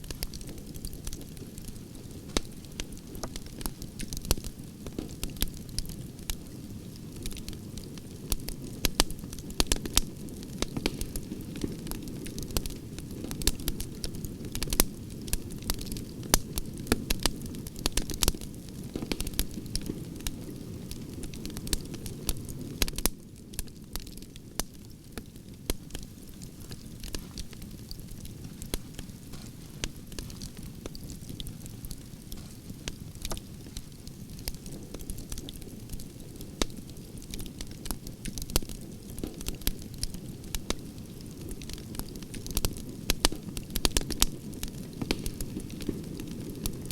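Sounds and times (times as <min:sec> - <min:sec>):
firewood crackling and popping: 0:00.0 - 0:46.9.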